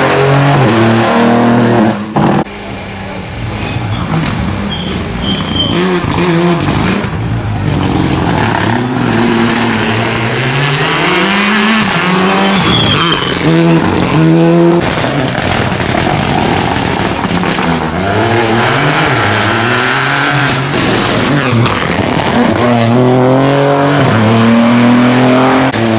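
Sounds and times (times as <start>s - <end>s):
rally car engine revving: 0.0s - 25.9s.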